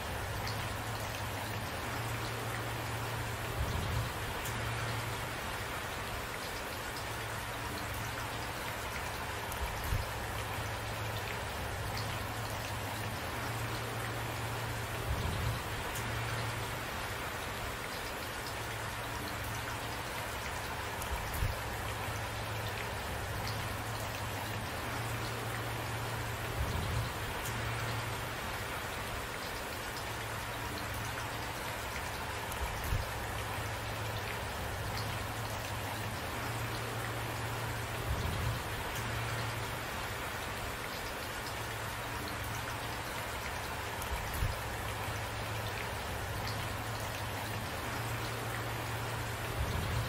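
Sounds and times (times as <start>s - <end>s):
louder raindrops: 0.0s - 50.0s
steady rain falling: 0.0s - 50.0s.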